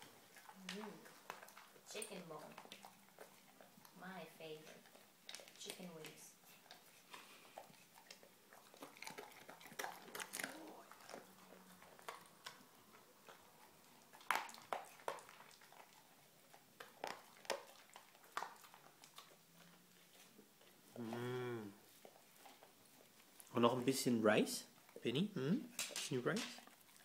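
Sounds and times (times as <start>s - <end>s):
dog crunching a bone: 0.0s - 21.1s, 21.8s - 23.9s, 25.7s - 27.0s.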